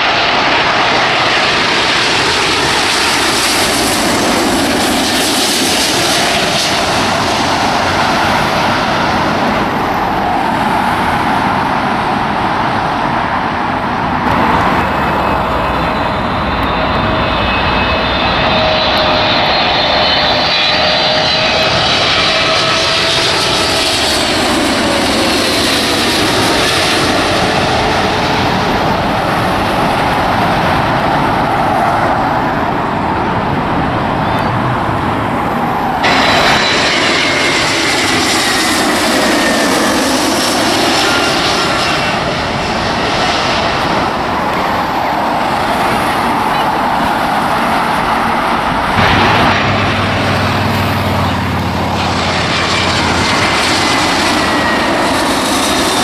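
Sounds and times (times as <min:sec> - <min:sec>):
jet engines roaring and whining: 0:00.0 - 0:56.0.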